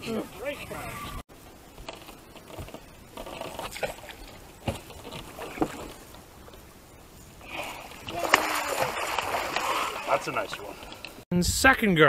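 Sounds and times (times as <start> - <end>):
water splashing against boat: 1.6 - 11.2.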